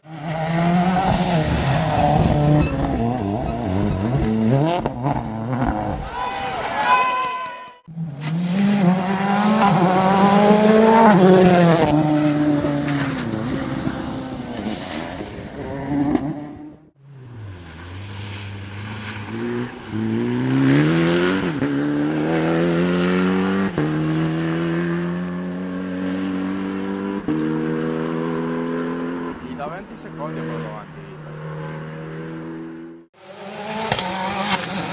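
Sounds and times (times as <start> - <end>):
rally car engine revving: 0.0 - 6.7, 7.9 - 34.9
rally car accelerating through gears: 0.1 - 6.1, 7.9 - 34.9.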